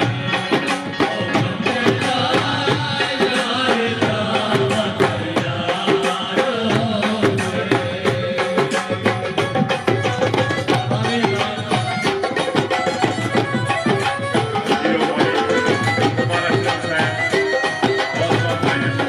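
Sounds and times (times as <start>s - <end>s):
dhol drum beating: 0.0s - 19.0s
men singing: 0.0s - 19.0s.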